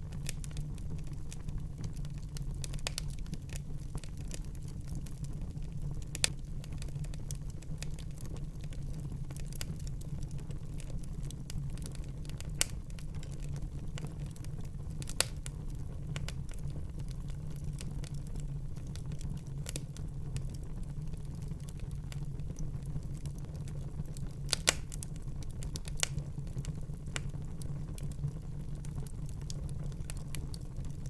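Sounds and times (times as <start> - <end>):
fire crackles and pops: 0.0 - 31.0
wood fire rumbling: 0.0 - 31.0.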